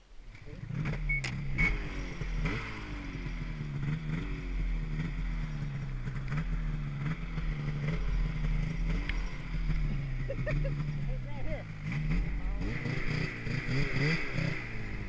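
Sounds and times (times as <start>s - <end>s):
snowmobile engine throttle blips: 0.0s - 15.0s.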